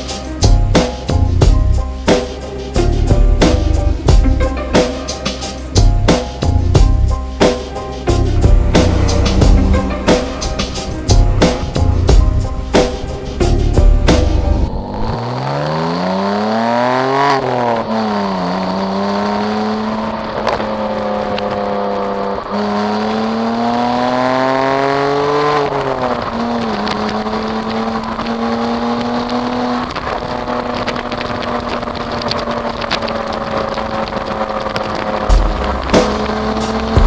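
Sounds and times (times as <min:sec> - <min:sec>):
car engine revving: 0:00.3 - 0:37.0.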